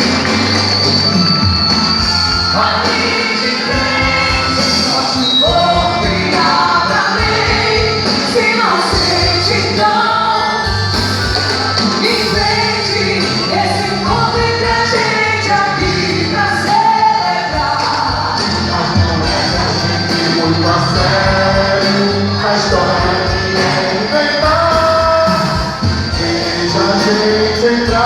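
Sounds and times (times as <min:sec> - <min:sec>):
folk dance song with singing: 0:00.0 - 0:28.0.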